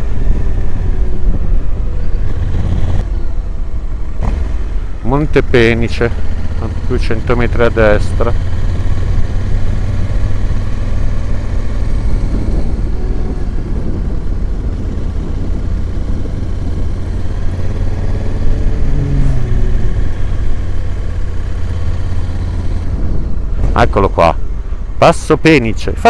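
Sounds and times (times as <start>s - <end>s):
wind noise: 0.0s - 4.8s, 8.7s - 25.8s
motorcycle engine running: 0.0s - 24.6s.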